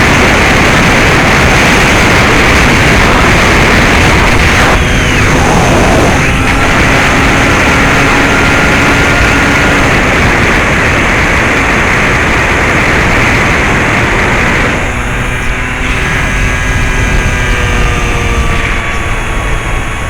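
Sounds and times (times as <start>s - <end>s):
electric motor whirr: 0.0s - 20.0s
wind rush: 0.0s - 20.0s.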